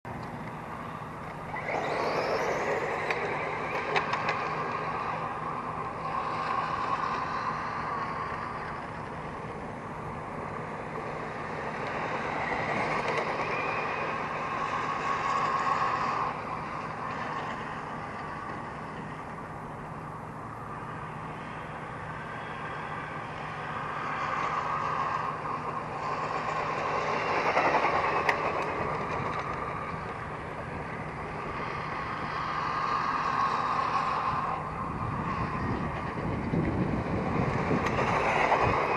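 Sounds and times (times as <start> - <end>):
steady low hum: 0.0 - 38.9
toy truck electric motor whine: 0.1 - 38.9.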